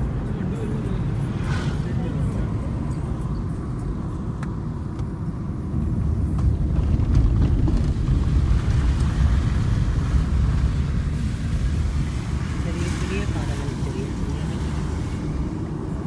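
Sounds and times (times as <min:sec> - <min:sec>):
car road noise inside cabin: 0:00.0 - 0:16.0.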